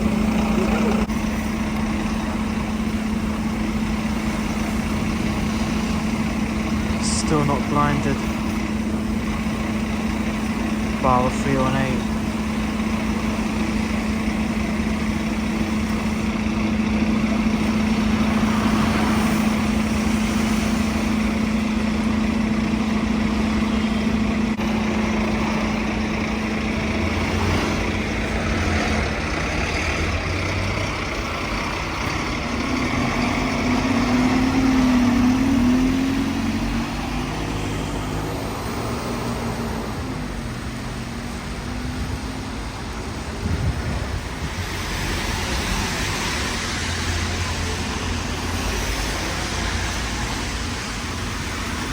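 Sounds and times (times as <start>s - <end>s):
bus engine hum: 0.0s - 51.9s
bus passing with whine: 0.0s - 51.9s.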